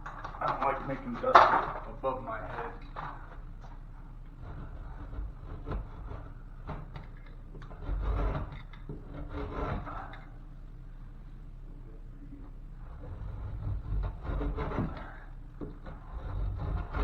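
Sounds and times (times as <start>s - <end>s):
utility knife scraping drywall: 0.0s - 10.5s, 12.8s - 17.0s.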